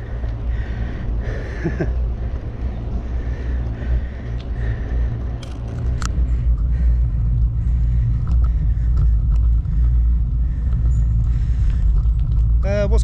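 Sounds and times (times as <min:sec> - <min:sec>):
bicycle road noise: 0:00.0 - 0:13.0.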